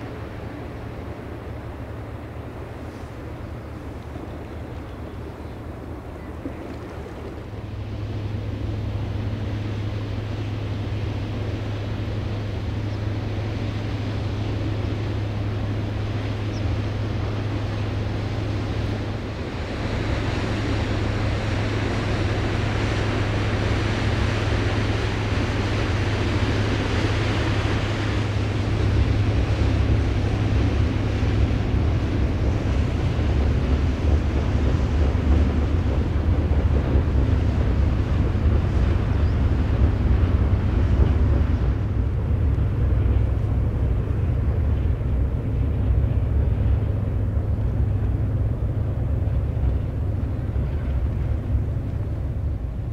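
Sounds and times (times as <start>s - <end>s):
ship engine drone: 0.0s - 52.9s
water washing against bank: 0.0s - 52.9s
wind rumbling on microphone: 0.0s - 52.9s.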